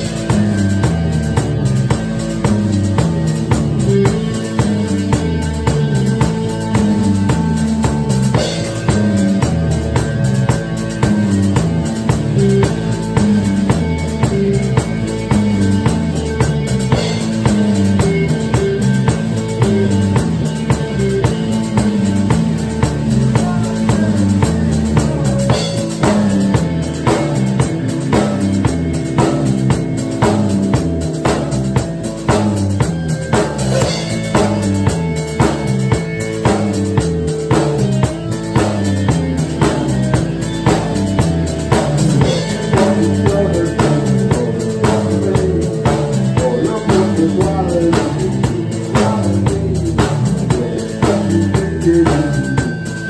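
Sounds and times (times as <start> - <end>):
drum kit beat: 0.0 - 53.0
electric guitars: 0.0 - 53.0.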